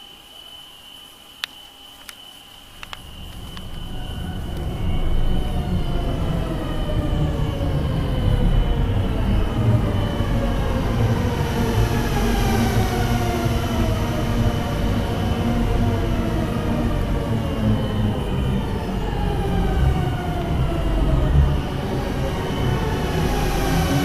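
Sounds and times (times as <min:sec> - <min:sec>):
dark horror drone: 0:00.0 - 0:24.0
steady high whine: 0:00.0 - 0:24.0.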